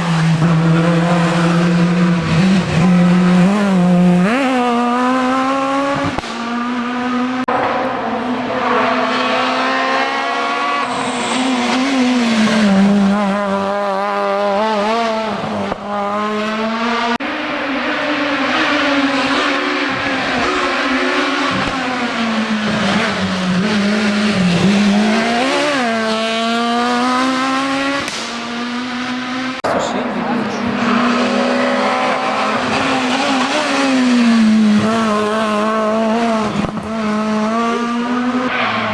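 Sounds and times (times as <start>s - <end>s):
rally car engine accelerating: 0.0s - 38.9s.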